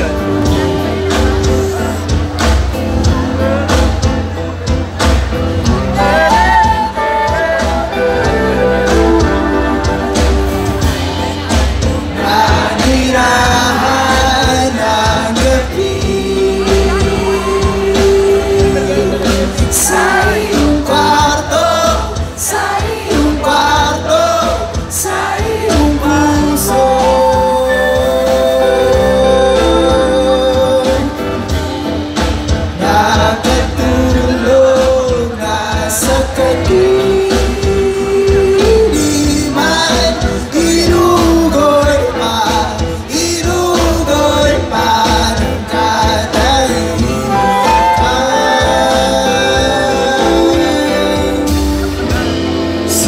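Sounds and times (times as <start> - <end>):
acoustic and electric guitars: 0.0 - 53.0
bass: 0.0 - 53.0
drums: 0.0 - 53.0
person singing: 0.0 - 53.0.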